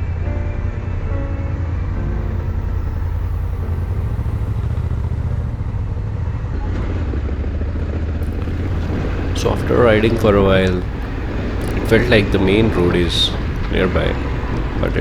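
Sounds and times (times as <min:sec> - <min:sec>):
motorcycle engine running: 0:01.3 - 0:15.0.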